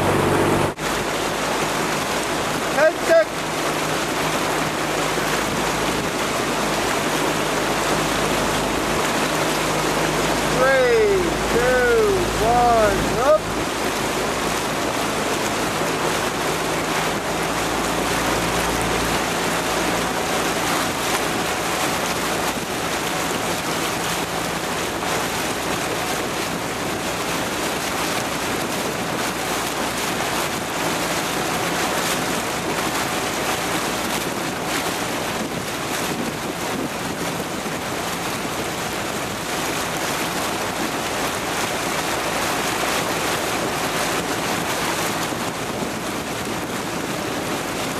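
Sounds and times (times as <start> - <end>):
rush of water: 0.0 - 47.9
wind on microphone: 0.0 - 47.9.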